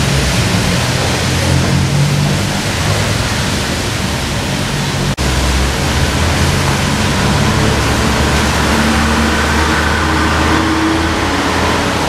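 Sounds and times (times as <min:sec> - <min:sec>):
loud rushing noise: 0:00.0 - 0:12.0.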